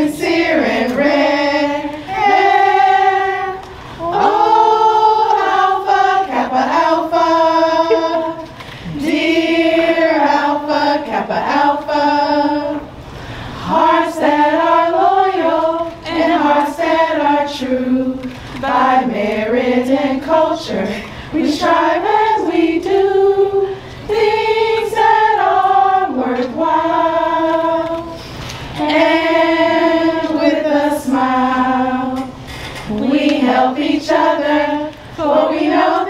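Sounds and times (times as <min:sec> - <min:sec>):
women singing a cappella: 0:00.0 - 0:36.0.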